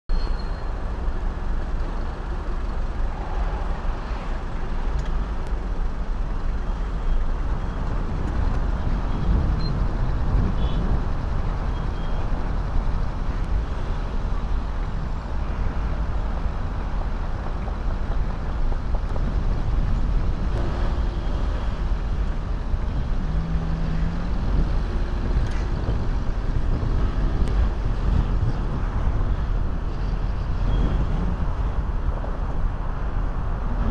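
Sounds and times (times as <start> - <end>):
cars driving past: 2.2 - 33.9.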